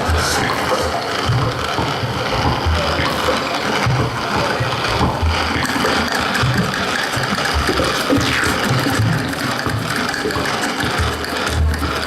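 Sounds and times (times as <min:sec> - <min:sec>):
coffee grinder running: 0:00.0 - 0:12.0
noisy sounds: 0:00.0 - 0:12.0.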